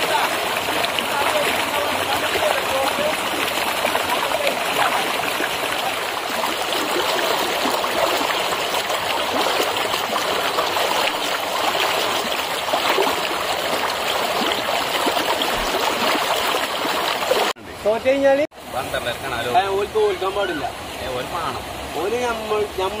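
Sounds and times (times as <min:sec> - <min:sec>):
mountain stream flowing: 0:00.0 - 0:23.0.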